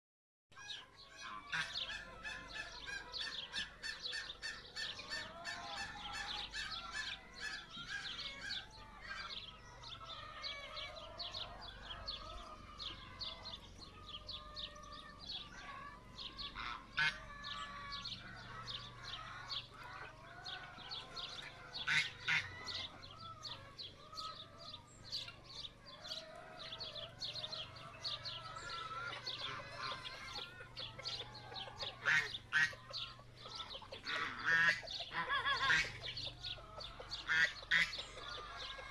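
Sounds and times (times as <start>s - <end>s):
ducks quacking: 0.6s - 38.9s.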